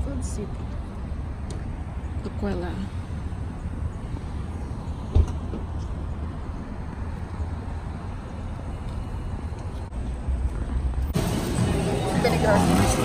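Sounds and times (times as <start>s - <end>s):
low rumble of distant traffic: 0.0s - 13.0s.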